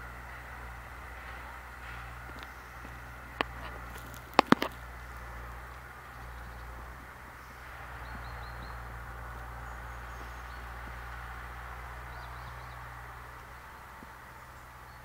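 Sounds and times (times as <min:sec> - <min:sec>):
distant machinery hum: 0:00.0 - 0:15.0
small birds chirping: 0:00.0 - 0:15.0.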